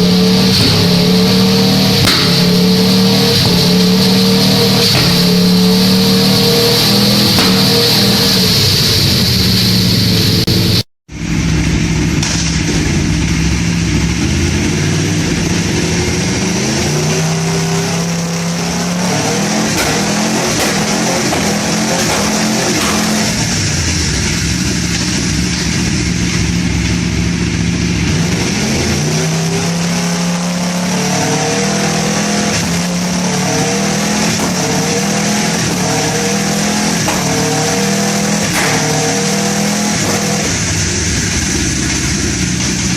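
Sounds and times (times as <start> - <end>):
exhaust popping on upshifts: 0.0 - 42.9
motorcycle engine revving: 0.0 - 42.9.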